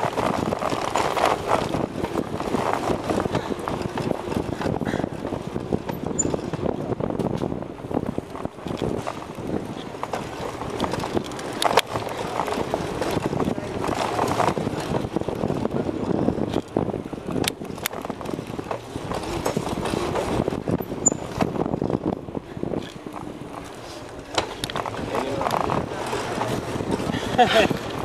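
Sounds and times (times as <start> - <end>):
bicycle riding rumble: 0.0 - 28.0.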